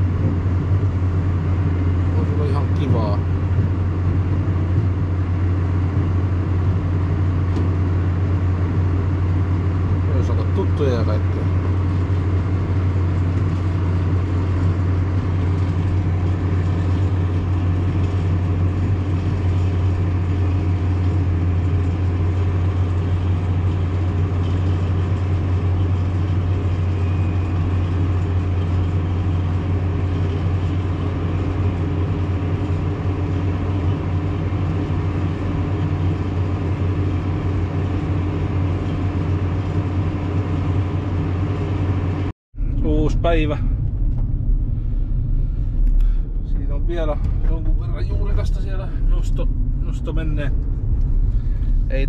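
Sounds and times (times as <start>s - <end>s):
harvester machinery running: 0.0s - 52.0s
tractor engine droning: 0.0s - 52.0s.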